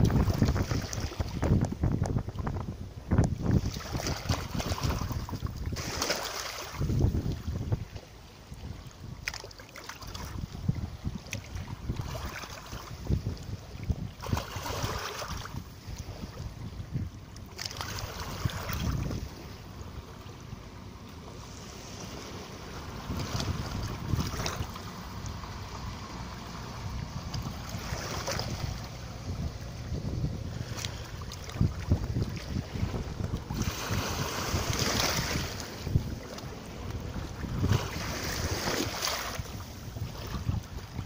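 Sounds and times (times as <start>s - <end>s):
small waves lapping on shore: 0.0s - 41.0s
wind rumble on microphone: 0.0s - 41.0s.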